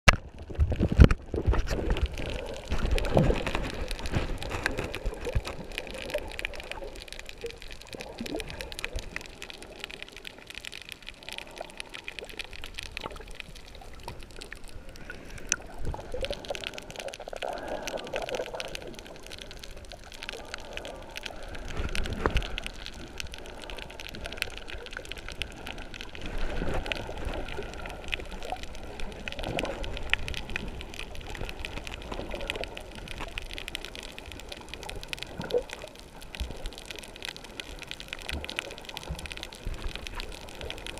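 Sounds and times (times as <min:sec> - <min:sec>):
muffled water sloshing and gurgling: 0:00.1 - 0:40.9
rushing water swells: 0:00.3 - 0:40.9.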